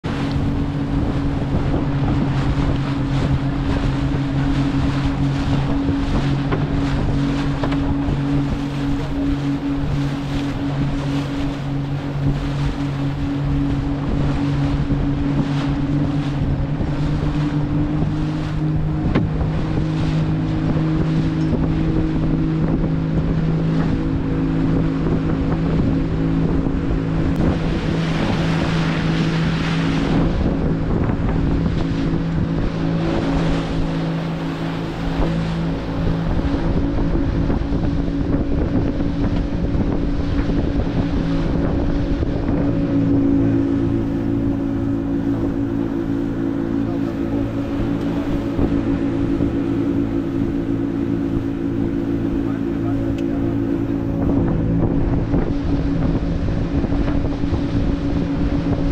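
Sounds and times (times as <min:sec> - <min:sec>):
motorboat engine running: 0:00.0 - 0:58.9
water rushing past hull: 0:00.0 - 0:58.9
wind on microphone: 0:00.0 - 0:58.9.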